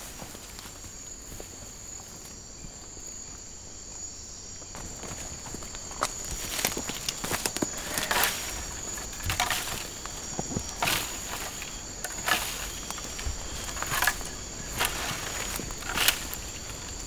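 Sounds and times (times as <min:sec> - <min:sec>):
footsteps in dry undergrowth: 0:00.0 - 0:17.0
insects chirring: 0:00.0 - 0:17.0.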